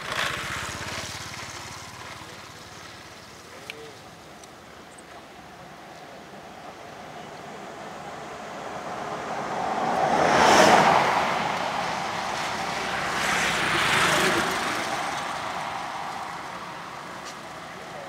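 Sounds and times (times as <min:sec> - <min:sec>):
road vehicles passing: 0:00.0 - 0:18.0.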